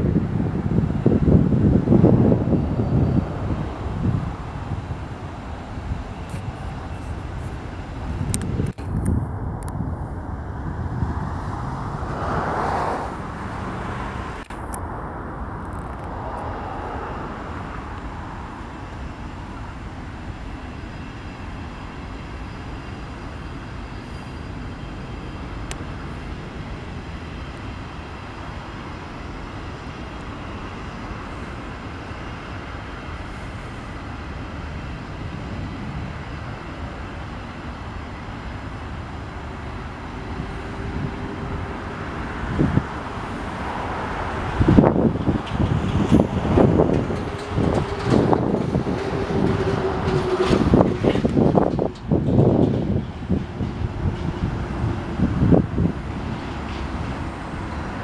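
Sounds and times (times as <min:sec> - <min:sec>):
distant freight train rumbling: 0:00.0 - 0:58.0.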